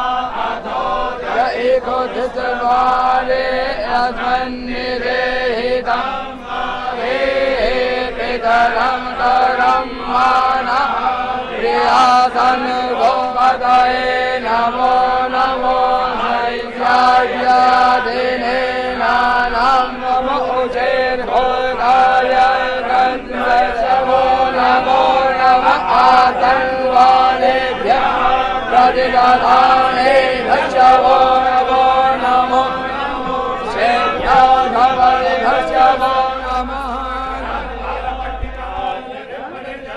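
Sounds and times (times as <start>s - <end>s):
men chanting: 0.0s - 39.9s.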